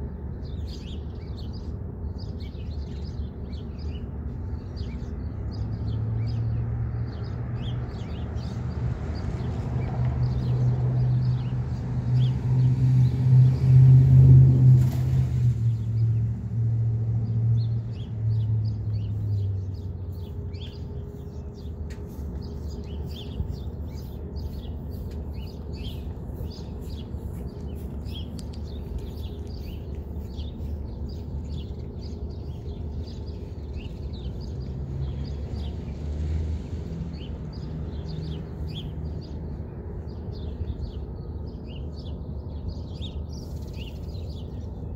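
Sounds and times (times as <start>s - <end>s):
small birds chirping: 0.0s - 13.7s, 17.2s - 44.9s
traffic noise: 0.0s - 44.9s
passing vehicle rumble: 4.5s - 44.9s.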